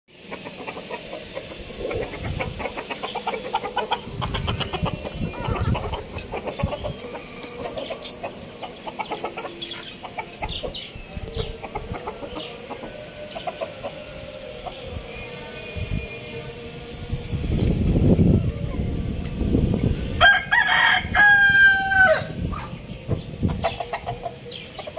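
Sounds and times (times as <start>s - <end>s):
chickens clucking: 0.1s - 24.9s.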